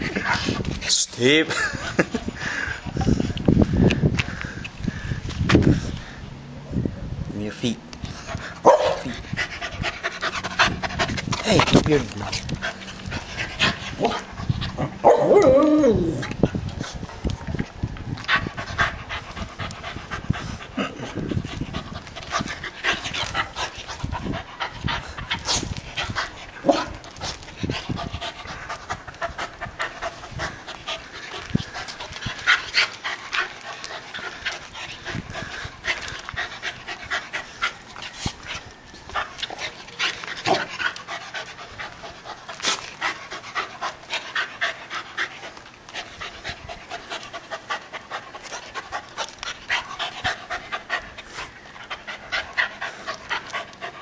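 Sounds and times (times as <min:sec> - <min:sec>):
dog panting: 0:00.0 - 0:04.6, 0:08.0 - 0:15.1, 0:18.2 - 0:54.0.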